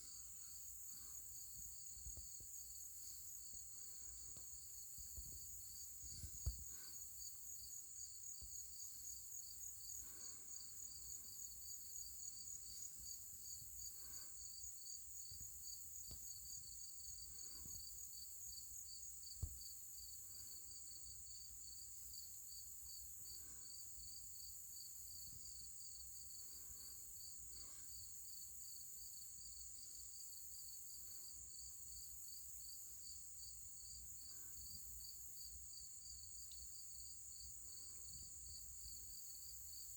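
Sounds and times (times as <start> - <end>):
continuous high hiss: 0.0 - 39.9
crickets chirping: 0.0 - 39.9.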